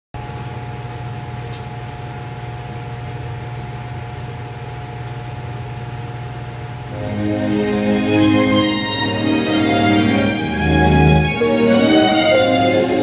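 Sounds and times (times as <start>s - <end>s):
steady hum and hiss: 0.2s - 13.0s.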